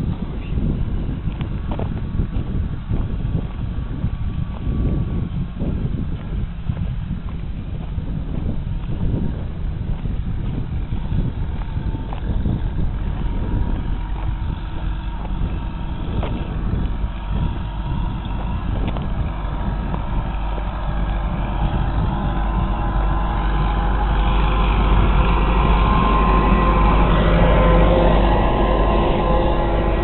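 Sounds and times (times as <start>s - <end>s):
tractor diesel engine running: 0.0s - 30.0s
wind rumbling on microphone: 0.0s - 30.0s.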